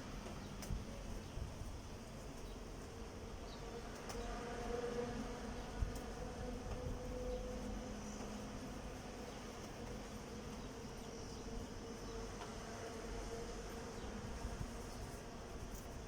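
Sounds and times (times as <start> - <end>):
faint buzzing hum: 0.0 - 16.0.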